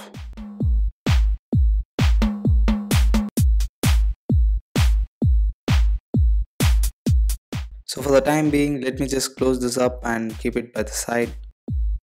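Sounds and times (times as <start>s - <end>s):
electronic music with kick beat: 0.0s - 12.0s.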